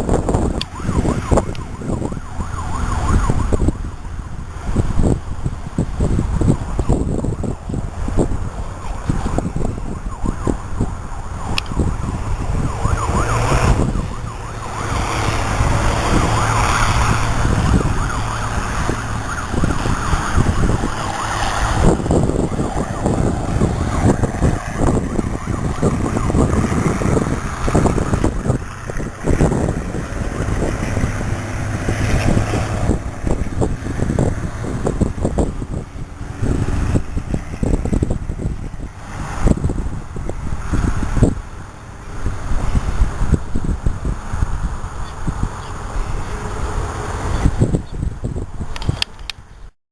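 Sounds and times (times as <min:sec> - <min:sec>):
fire engine siren: 0:00.0 - 0:49.1
moving truck noise: 0:00.0 - 0:49.7
wind buffeting microphone: 0:00.0 - 0:49.7.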